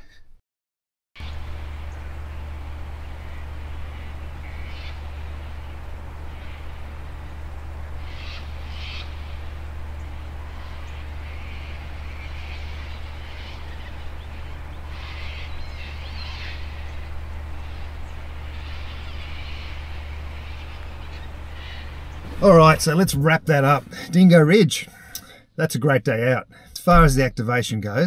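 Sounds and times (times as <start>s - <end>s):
distant bird calls: 1.2s - 25.7s
steady low hum: 1.2s - 27.8s.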